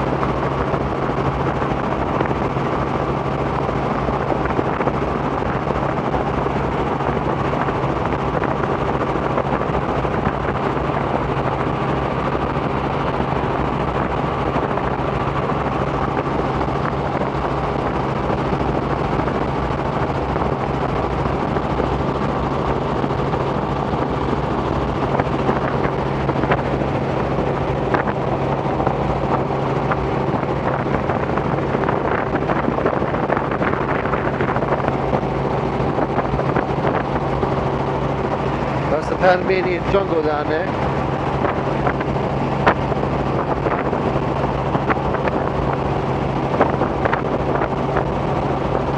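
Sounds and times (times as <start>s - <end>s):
helicopter engine and rotors drone: 0.0s - 48.9s.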